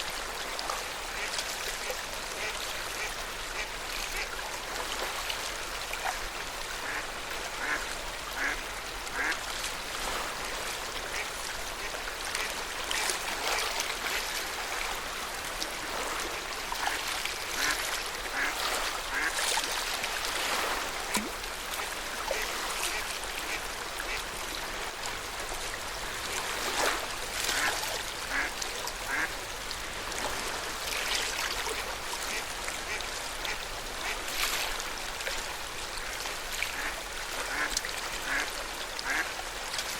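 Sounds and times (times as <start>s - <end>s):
water lapping at shore: 0.0s - 39.9s
waterbirds quacking: 0.7s - 5.2s, 6.0s - 14.8s, 15.8s - 24.4s, 26.2s - 34.6s, 36.0s - 39.4s.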